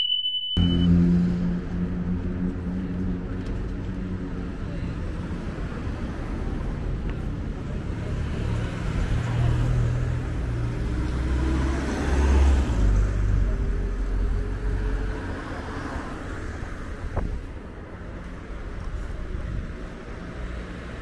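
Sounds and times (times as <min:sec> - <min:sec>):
vehicle passing with low rumble: 0:00.6 - 0:21.0.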